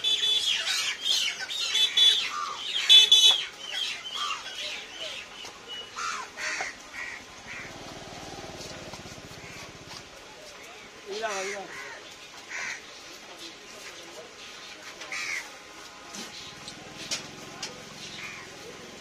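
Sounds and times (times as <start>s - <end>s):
birds calling and squawking: 0.0s - 19.0s.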